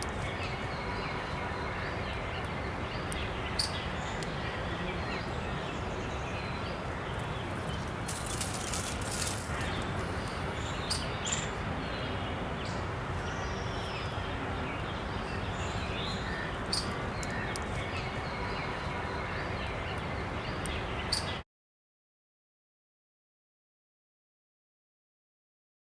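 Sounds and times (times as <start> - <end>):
outdoor background noise: 0.0 - 21.4.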